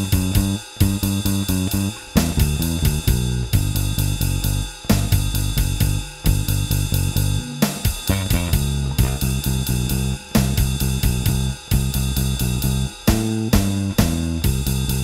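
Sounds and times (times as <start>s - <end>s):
drums with hi-hat and cymbals: 0.0s - 15.0s
electric bass guitar line: 0.0s - 15.0s.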